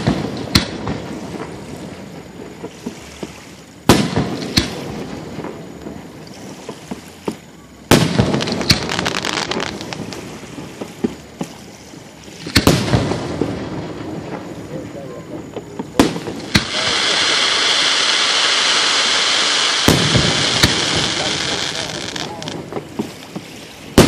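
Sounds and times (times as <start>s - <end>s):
fireworks bangs: 0.0s - 2.0s, 3.8s - 11.5s, 12.4s - 24.0s
fireworks crackling: 0.0s - 3.0s, 3.6s - 11.6s, 12.3s - 24.0s.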